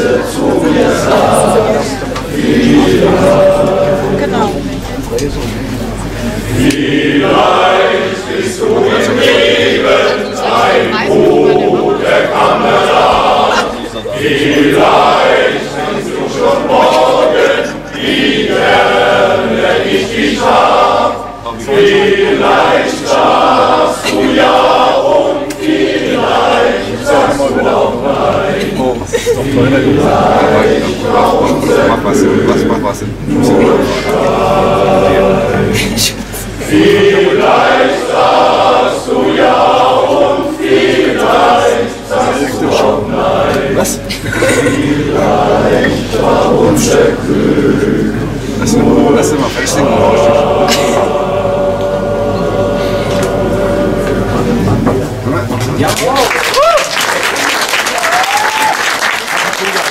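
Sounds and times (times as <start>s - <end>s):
men's choir singing: 0.0s - 4.8s, 6.4s - 55.5s.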